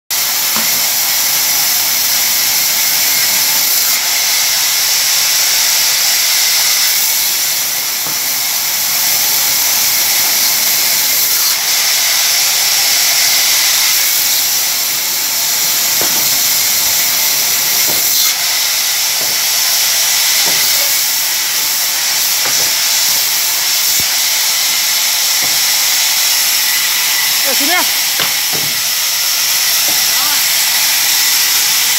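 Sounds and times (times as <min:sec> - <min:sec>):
band saw cutting wood: 0:00.1 - 0:31.9.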